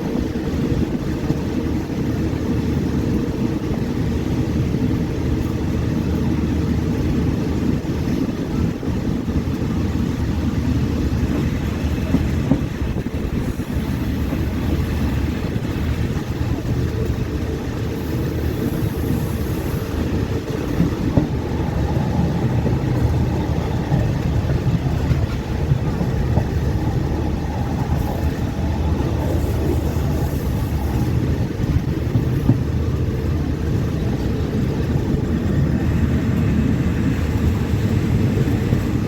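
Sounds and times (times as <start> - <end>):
train rumbling on track: 0.0 - 39.0.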